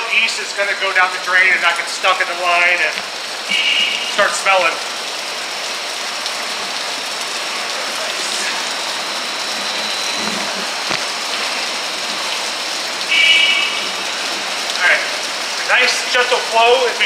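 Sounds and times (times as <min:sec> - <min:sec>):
water from hose splashing into drain: 0:00.0 - 0:17.0.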